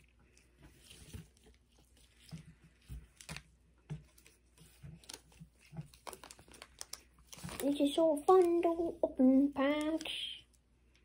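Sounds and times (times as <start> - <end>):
rustling of cards: 0.0 - 10.6.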